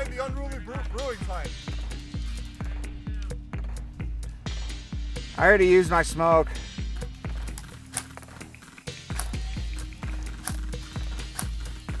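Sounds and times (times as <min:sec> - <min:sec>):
background music with bass kicks: 0:00.0 - 0:12.0
crisp high percussion: 0:00.0 - 0:12.0.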